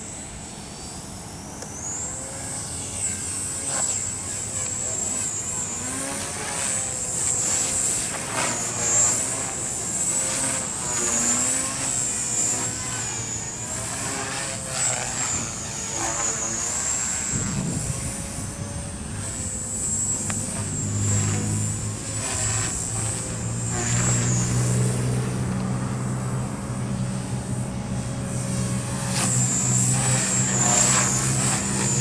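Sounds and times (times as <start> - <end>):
rc helicopter motor whine: 0.0 - 32.0.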